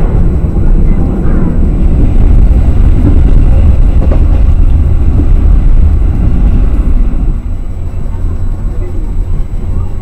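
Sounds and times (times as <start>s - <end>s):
train carriage rumbling inside: 0.0s - 10.0s.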